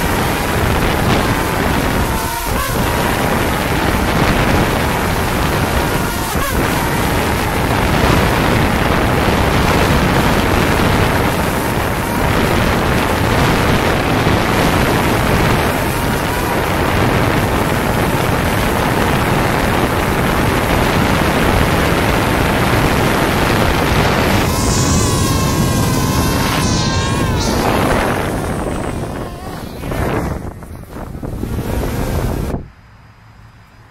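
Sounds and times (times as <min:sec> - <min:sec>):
drone propellers whirring: 0:00.0 - 0:32.6
rotor wash buffeting microphone: 0:00.0 - 0:32.7.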